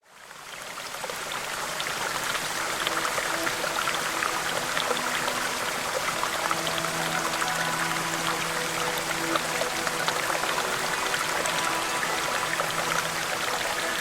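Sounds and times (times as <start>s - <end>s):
running water with drips and splashes: 0.0s - 14.0s.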